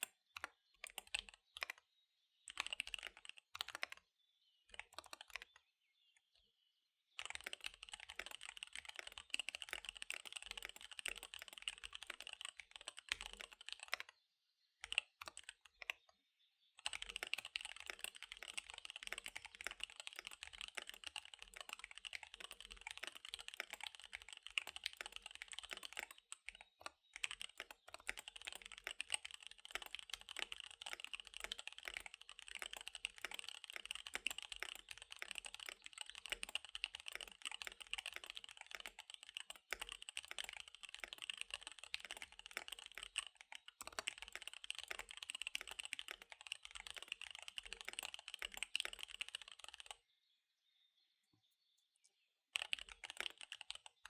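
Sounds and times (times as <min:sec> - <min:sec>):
fast typing on mechanical keyboard: 0:00.3 - 0:01.8, 0:02.5 - 0:04.0, 0:04.7 - 0:05.5, 0:07.2 - 0:14.1, 0:14.8 - 0:16.0, 0:16.8 - 0:50.0, 0:52.5 - 0:54.0.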